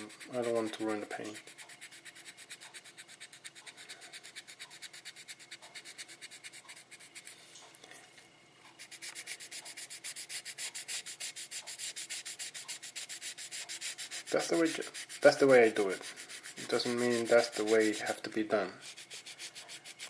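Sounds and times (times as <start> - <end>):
sandpaper scratching on plastic: 0.0 - 7.4, 8.8 - 20.0.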